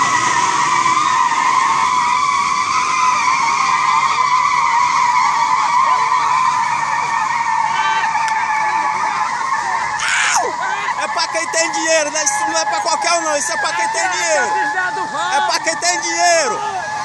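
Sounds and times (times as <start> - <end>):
tyres spinning and squealing: 0.0 - 17.0.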